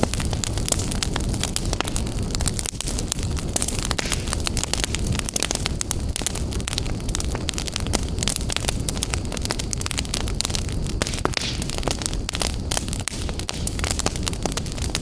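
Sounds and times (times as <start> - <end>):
fire flames rushing: 0.0 - 15.0
wood fire crackling and popping: 0.0 - 15.0.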